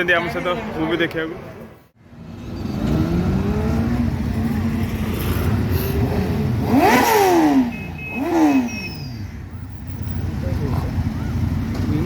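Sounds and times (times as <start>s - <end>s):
motorbike engine revving: 2.2s - 12.0s.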